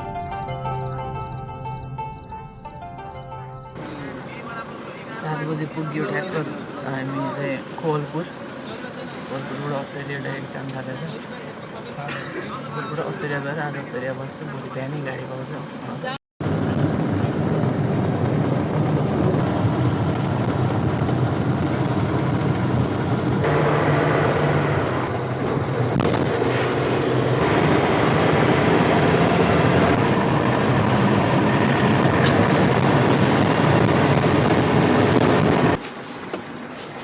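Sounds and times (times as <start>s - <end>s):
bus engine and road noise: 3.8s - 37.0s.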